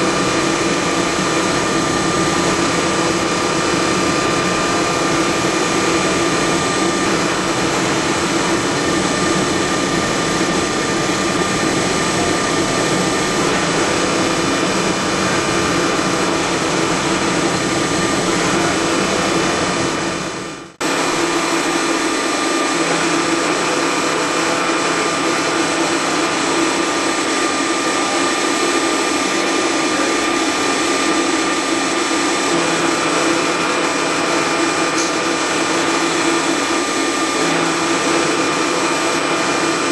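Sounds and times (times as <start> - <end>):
lathe spindle machining whir: 0.0 - 39.9.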